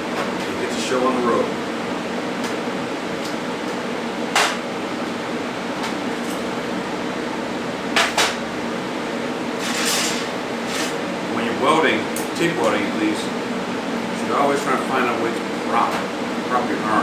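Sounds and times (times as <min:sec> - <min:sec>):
fan-like hum: 0:00.0 - 0:17.0.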